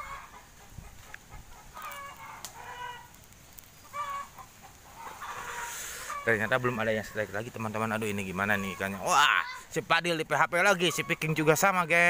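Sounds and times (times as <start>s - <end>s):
bird calling: 0.0s - 12.0s.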